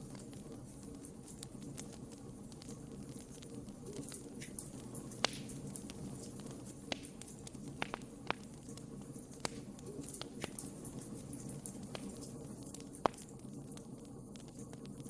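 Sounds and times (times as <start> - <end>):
low rush of flames: 0.0 - 15.0
wood crackling and popping: 0.0 - 15.0.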